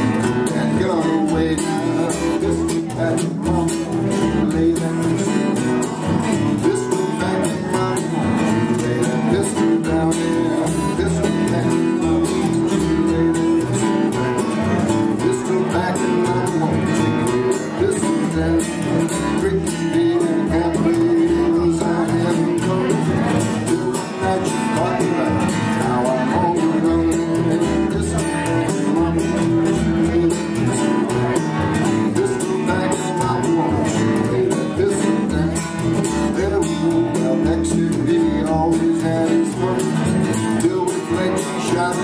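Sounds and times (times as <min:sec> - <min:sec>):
acoustic guitar strumming: 0:00.0 - 0:42.0
double bass plucking: 0:00.0 - 0:42.0.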